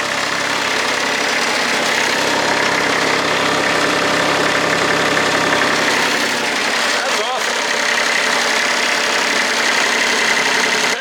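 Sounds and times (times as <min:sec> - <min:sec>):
blower rushing air: 0:00.0 - 0:10.9
diesel engine running: 0:00.0 - 0:11.0.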